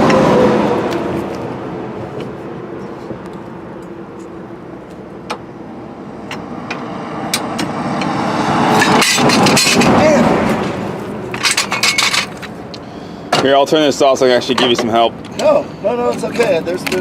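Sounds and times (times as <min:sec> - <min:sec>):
road vehicle running: 0:00.0 - 0:17.0.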